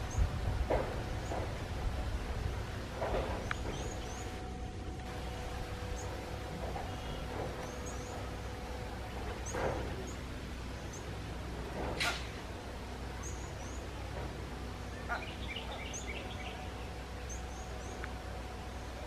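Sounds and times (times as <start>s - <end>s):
birds chirping: 0.0s - 19.0s
low outdoor rumble: 0.0s - 19.0s.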